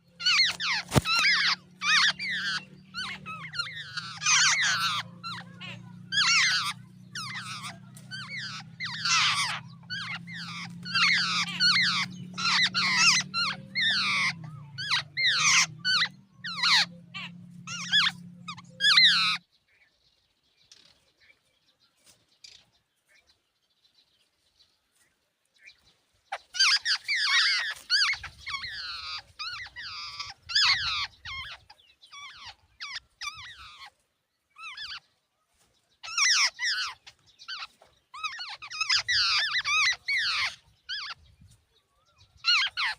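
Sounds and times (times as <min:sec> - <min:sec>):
jungle babblers calling: 0:00.0 - 0:19.9, 0:25.6 - 0:35.2, 0:36.0 - 0:42.9.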